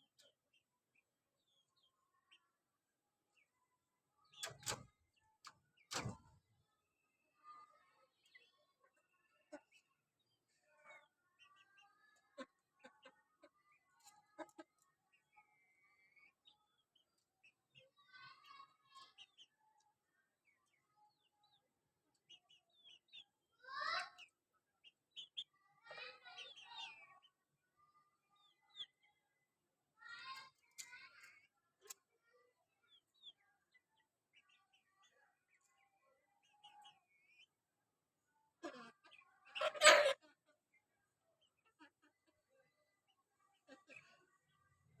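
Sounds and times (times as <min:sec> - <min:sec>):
chickens chirping and peeping: 0:00.0 - 0:45.0.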